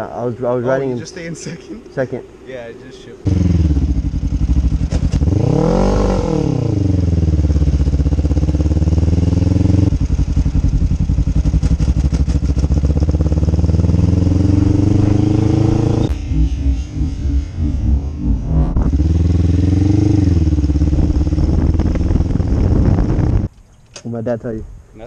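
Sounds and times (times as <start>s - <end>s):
motorcycle engine revving: 3.2s - 23.5s.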